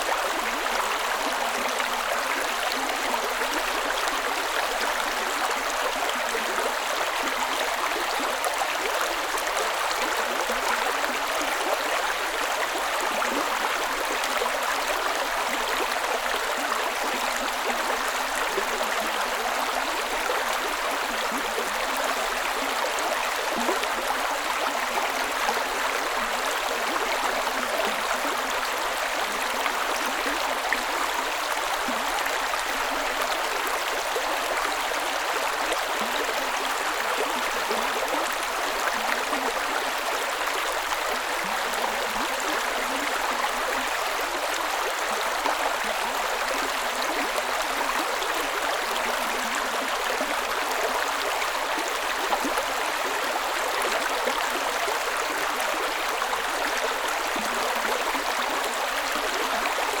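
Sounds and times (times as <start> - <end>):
creek water burbling over rocks: 0.0 - 60.0.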